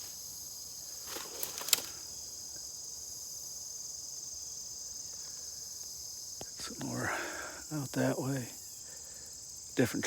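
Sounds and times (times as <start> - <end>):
insects chorus: 0.0 - 10.0.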